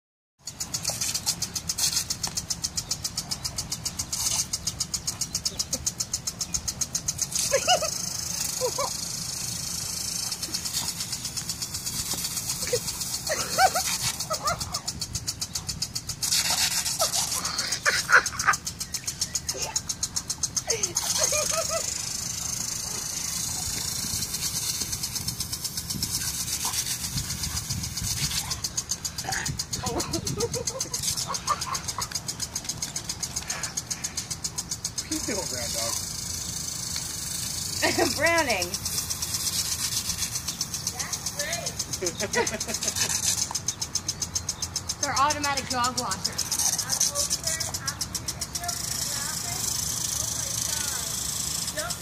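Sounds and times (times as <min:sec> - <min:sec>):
lawn sprinkler water hissing: 0:00.4 - 0:52.0.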